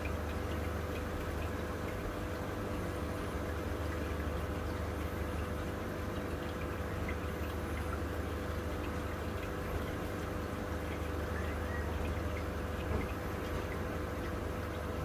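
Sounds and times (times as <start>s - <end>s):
water trickling and bubbling: 0.0s - 15.0s.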